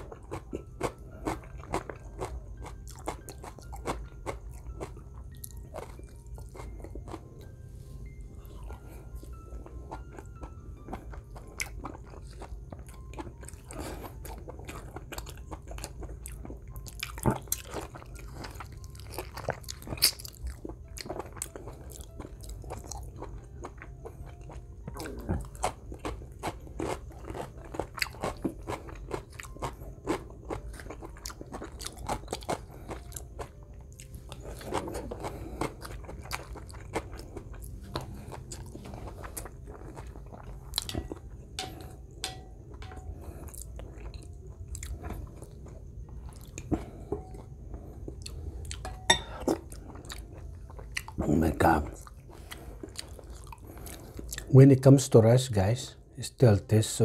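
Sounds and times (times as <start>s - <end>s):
wet chewing and lip-smacking: 0.0s - 7.5s, 8.6s - 42.2s, 42.8s - 51.2s, 51.9s - 54.5s
man chewing food: 0.0s - 54.5s.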